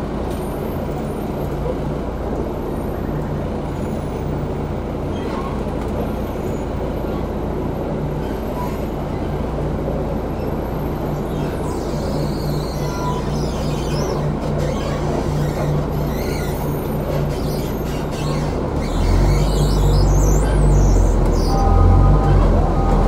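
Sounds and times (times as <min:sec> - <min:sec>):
bus engine droning: 0:00.0 - 0:23.0.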